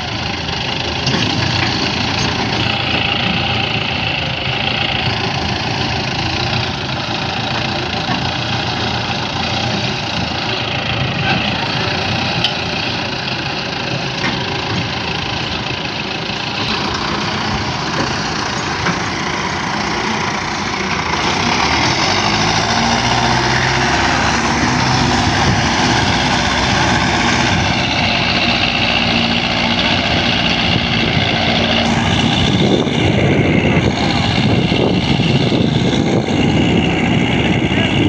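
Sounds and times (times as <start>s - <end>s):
tractor diesel engines under load: 0.0s - 38.0s.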